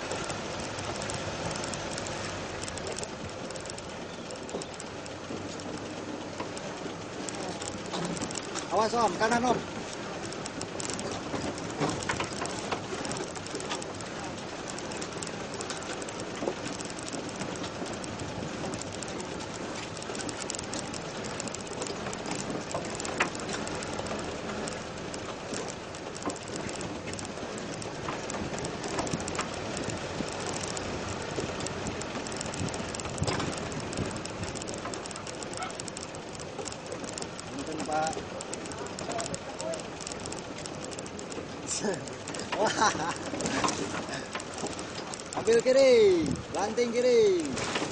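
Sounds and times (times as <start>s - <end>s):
constant rattling: 0.0s - 47.9s
vehicle running and road noise: 0.0s - 47.9s.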